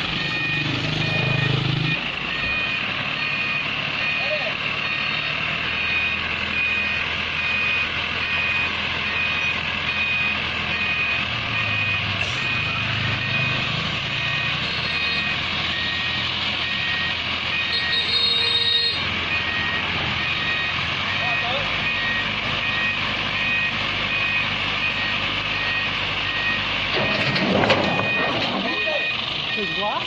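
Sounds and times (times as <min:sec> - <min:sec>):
diesel engine running: 0:00.0 - 0:30.0
truck reversing alarm beeping: 0:00.0 - 0:30.0.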